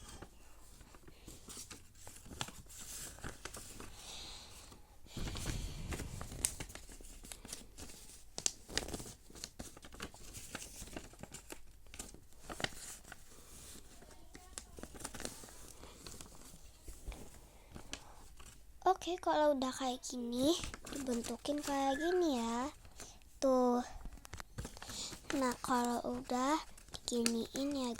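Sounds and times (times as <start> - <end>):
paper being folded and creased: 0.0 - 4.0, 5.1 - 18.6, 20.2 - 27.9.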